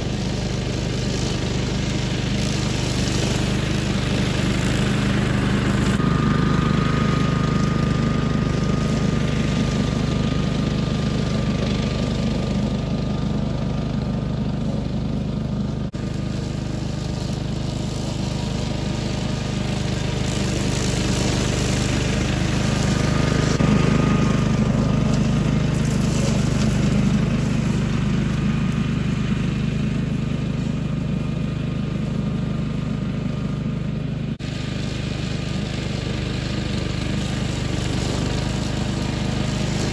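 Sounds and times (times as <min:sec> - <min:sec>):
brush mower cutting grass: 0:00.0 - 0:39.9.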